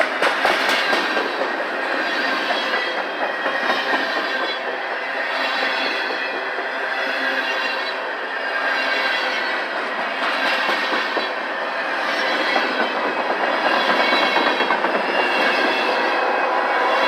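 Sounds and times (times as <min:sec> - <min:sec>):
train wheels clattering over rail joints: 0:00.0 - 0:16.3.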